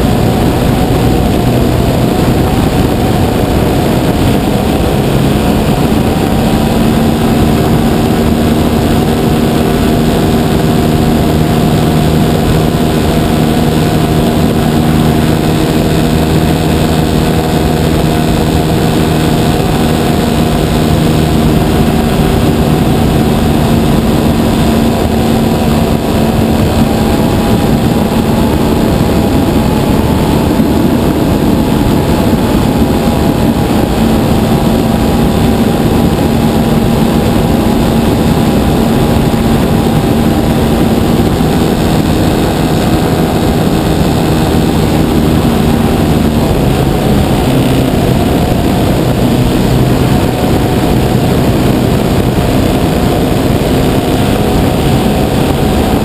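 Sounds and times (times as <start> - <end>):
model plane engine and propeller: 0.0 - 56.0.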